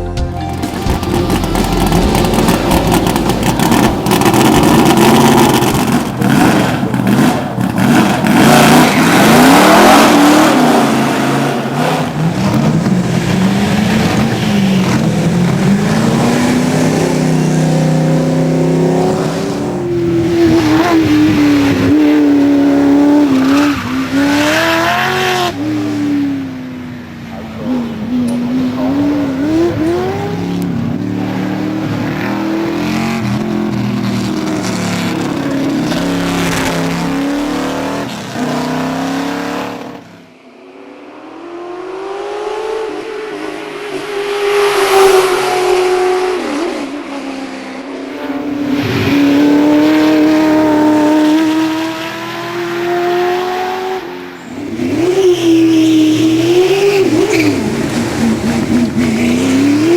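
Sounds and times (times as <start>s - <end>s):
race car engines at full throttle: 0.5s - 59.9s.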